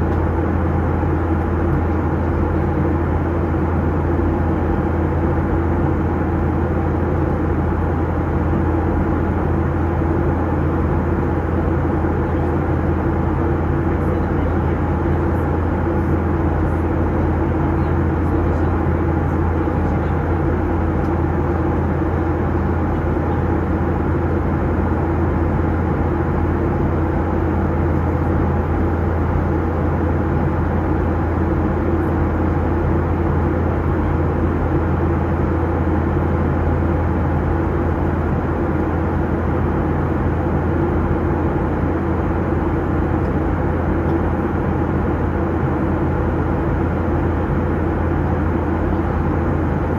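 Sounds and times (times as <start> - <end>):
airplane cabin engine drone: 0.0 - 49.9.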